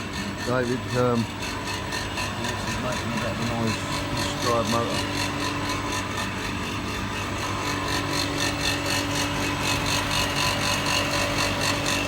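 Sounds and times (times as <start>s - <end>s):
electric motor hum and whine: 0.0s - 12.0s.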